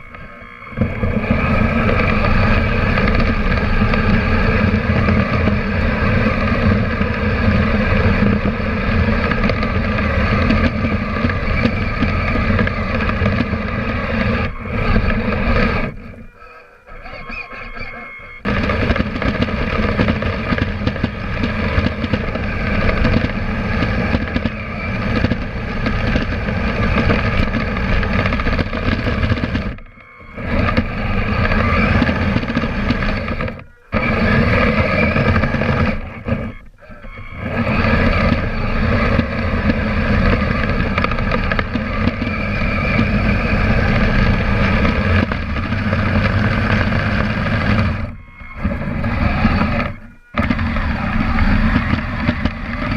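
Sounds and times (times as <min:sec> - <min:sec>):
electric motor whine and rattle: 0:00.0 - 0:52.9.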